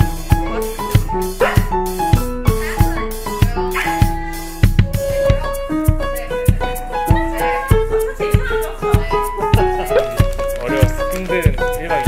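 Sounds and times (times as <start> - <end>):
melody over steady beat: 0.0 - 12.0.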